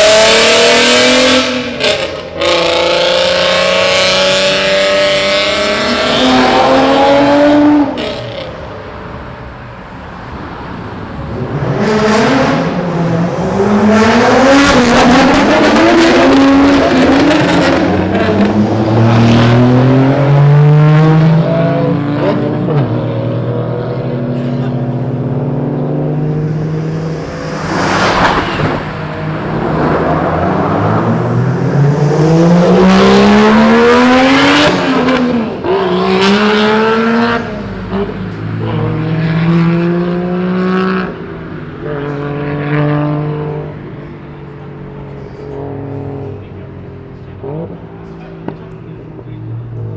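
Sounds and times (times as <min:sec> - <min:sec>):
car exhausts revving and accelerating: 0:00.0 - 0:08.7, 0:11.1 - 0:49.9.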